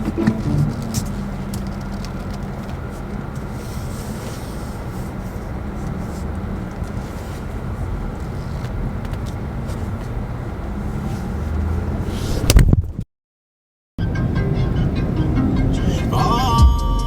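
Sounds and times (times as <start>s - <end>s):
car engine and road noise: 0.0s - 13.0s, 14.0s - 17.0s.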